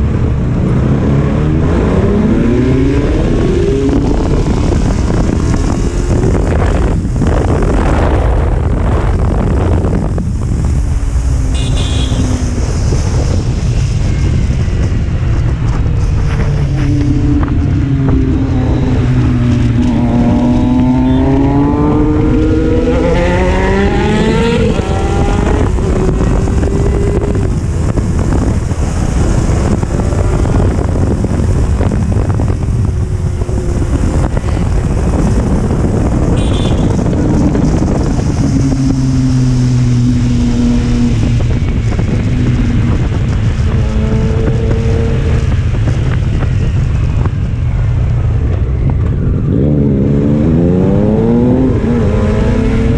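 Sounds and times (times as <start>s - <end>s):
motorcycle engine revving: 0.0s - 52.9s
wind and road noise: 0.0s - 52.9s.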